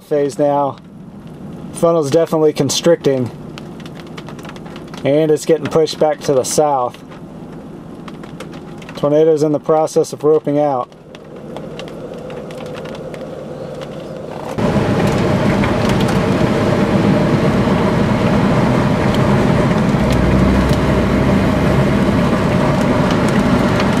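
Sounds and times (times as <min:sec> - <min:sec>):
vehicle running hum: 0:00.0 - 0:24.0.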